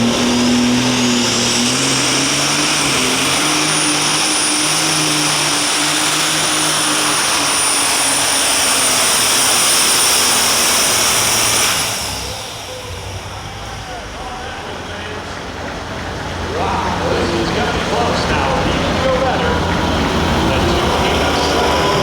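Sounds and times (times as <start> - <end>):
diesel engine running flat out: 0.0 - 22.0
turbo whine: 0.0 - 22.0.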